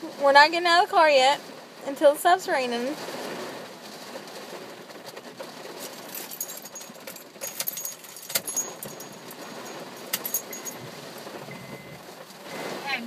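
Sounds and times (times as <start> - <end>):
rain on a car roof: 0.0 - 13.0.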